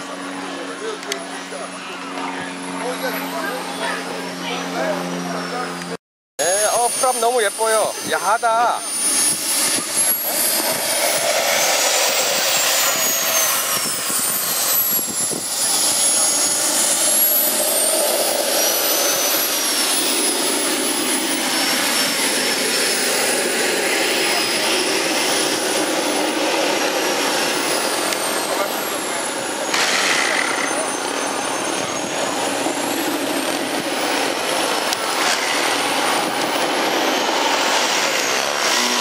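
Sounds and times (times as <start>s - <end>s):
model aircraft engine whine: 0.0s - 39.0s
steady rushing noise: 2.5s - 39.0s.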